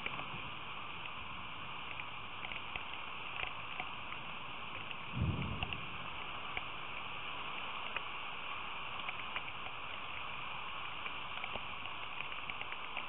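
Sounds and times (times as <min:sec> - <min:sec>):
rain hissing: 0:00.0 - 0:13.0
raindrops ticking nearby: 0:00.0 - 0:13.0.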